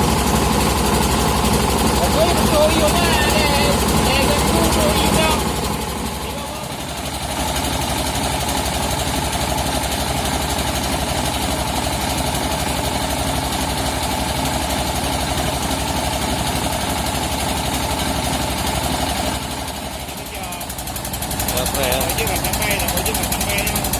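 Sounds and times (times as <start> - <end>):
milling machine engine running: 0.0 - 23.9.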